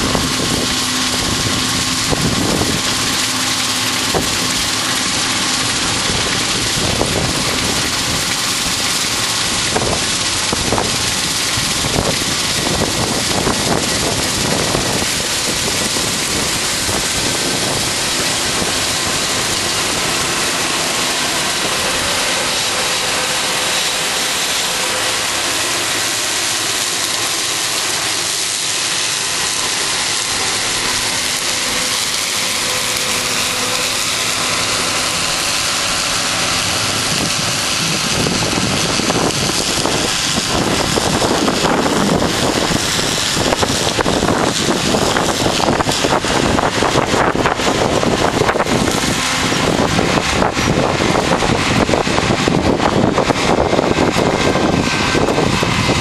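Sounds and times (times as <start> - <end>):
combine harvester running: 0.0 - 56.0
wind buffeting microphone: 0.0 - 56.0.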